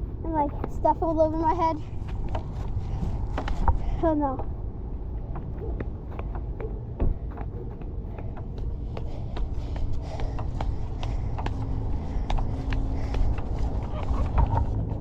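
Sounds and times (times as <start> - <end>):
steady low rumble: 0.0 - 15.0
footsteps on concrete: 0.6 - 4.0, 5.2 - 15.0.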